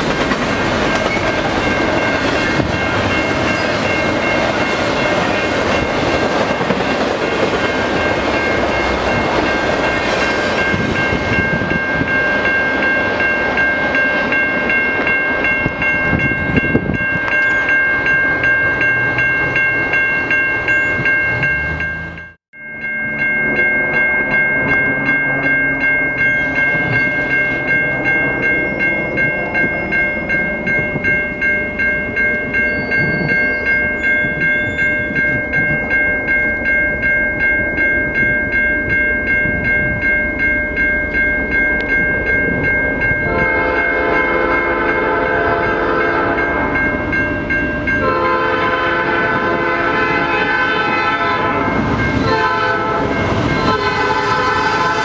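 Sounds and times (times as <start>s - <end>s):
crossing bell ringing: 0.0s - 55.0s
freight train rumble: 0.0s - 55.0s.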